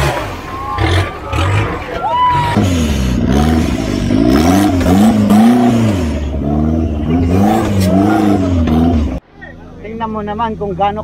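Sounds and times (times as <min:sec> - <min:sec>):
engine revving: 0:00.0 - 0:09.2.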